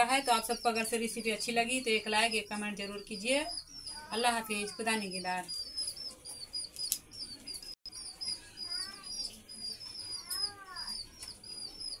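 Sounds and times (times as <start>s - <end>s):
small birds chirping: 0.0s - 12.0s
rising and falling bird calls: 2.3s - 12.0s.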